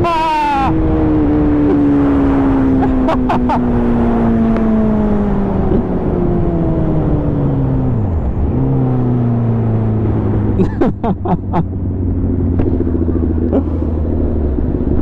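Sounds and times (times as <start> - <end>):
motorcycle engine running: 0.3 - 15.0.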